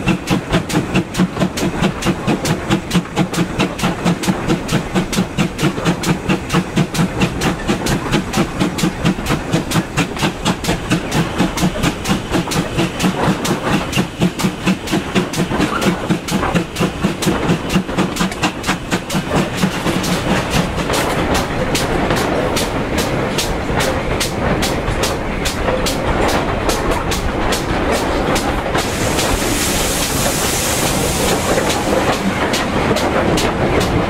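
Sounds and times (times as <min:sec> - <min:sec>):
steam locomotive exhaust beats: 0:00.0 - 0:34.0
train running noise: 0:00.0 - 0:34.0.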